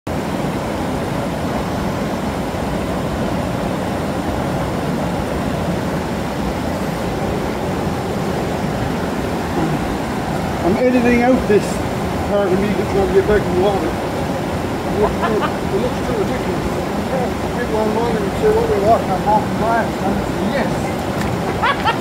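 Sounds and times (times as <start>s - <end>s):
waterfall rushing water: 0.1s - 22.0s.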